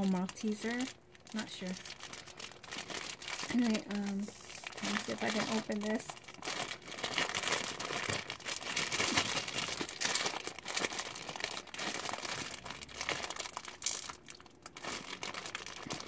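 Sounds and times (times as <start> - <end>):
plastic packet crinkling: 0.0 - 16.0.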